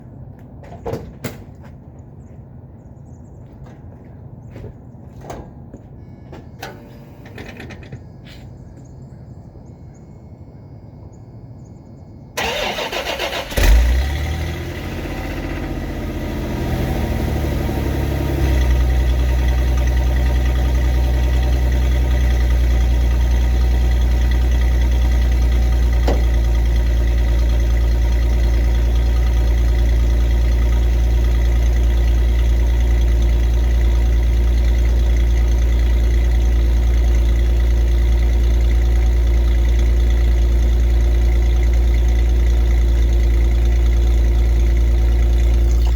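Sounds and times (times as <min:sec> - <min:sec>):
car engine starting and idling: 0:06.0 - 0:10.8, 0:11.4 - 0:45.9.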